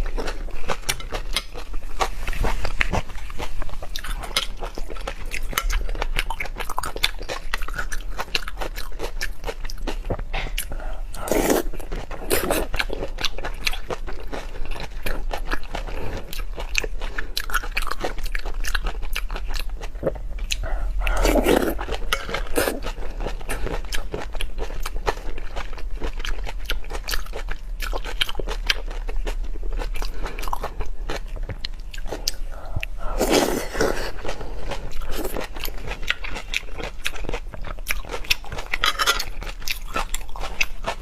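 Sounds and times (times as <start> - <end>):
chewing and biting shrimp: 0.0 - 41.0.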